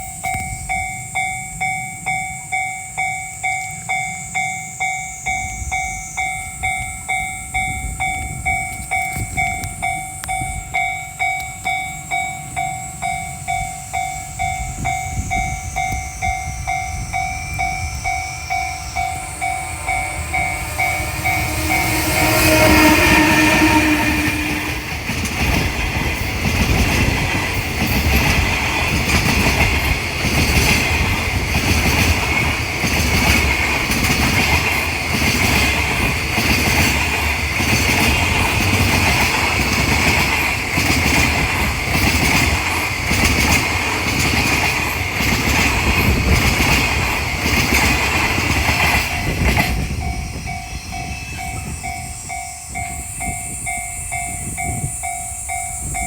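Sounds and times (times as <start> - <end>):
crossing warning bell ringing: 0.0 - 56.0
train wheels clattering over rail joints: 7.0 - 52.0.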